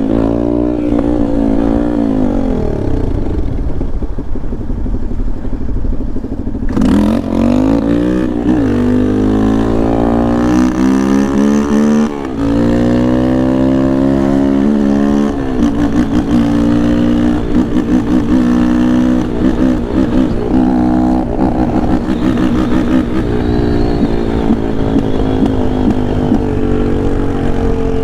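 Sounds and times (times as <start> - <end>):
motorcycle engine under hard riding: 0.0 - 28.0.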